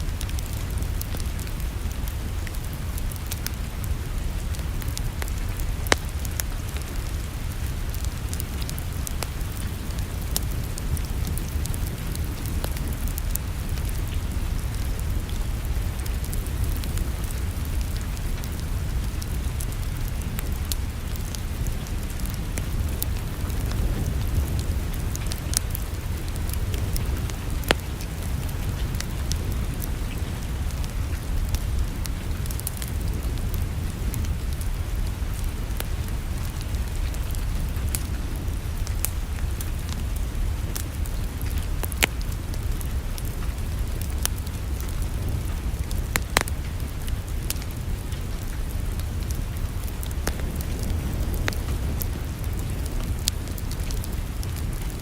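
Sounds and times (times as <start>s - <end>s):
fire popping: 0.0s - 55.0s
low steady rumble: 0.0s - 55.0s
wood fire crackling: 0.0s - 55.0s.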